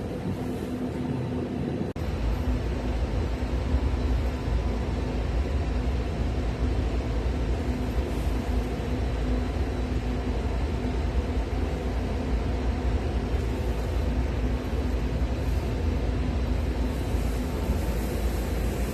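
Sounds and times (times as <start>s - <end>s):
air conditioning fans rumbling: 0.0s - 18.9s
faint steady hum: 0.0s - 18.9s.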